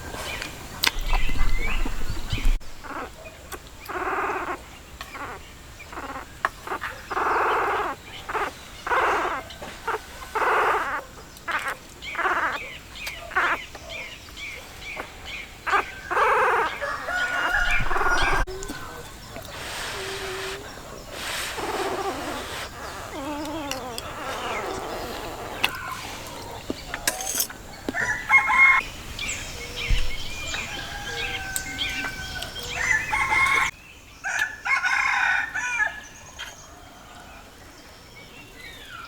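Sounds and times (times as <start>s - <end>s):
farm animals calling: 1.0s - 28.8s, 29.4s - 33.7s.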